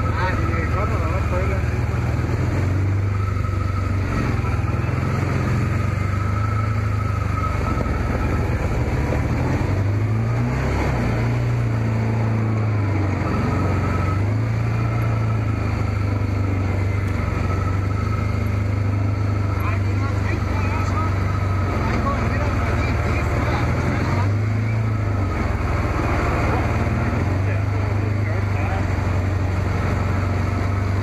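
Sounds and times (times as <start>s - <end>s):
engine running at low speed: 0.0s - 31.0s.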